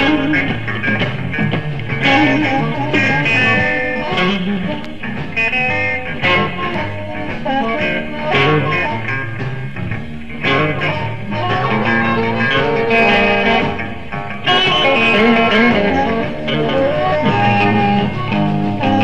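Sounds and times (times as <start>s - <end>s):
electric blues band playing: 0.0s - 19.0s
electric guitar: 0.0s - 19.0s.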